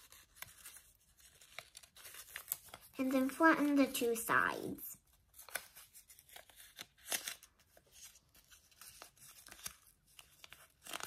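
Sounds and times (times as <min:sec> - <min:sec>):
paper crinkling and rustling: 0:00.0 - 0:04.1, 0:05.1 - 0:11.0.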